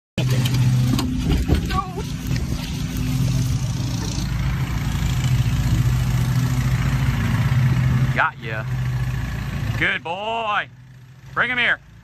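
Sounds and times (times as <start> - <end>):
engine idling: 0.2 - 12.0.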